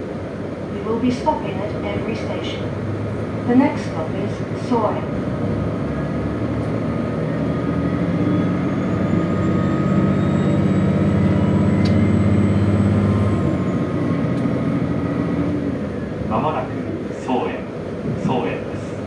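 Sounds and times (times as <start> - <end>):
diesel engine drone: 0.0 - 19.0
wheels rumbling on track: 0.0 - 19.0.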